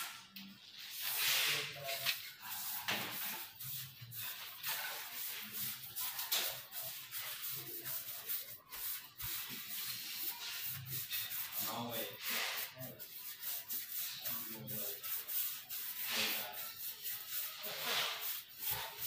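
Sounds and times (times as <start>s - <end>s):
sandpaper rubbing on wood: 0.9s - 19.0s.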